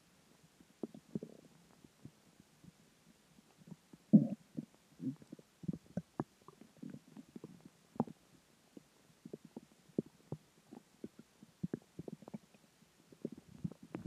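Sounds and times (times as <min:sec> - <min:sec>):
stomach gurgling: 0:00.5 - 0:14.0.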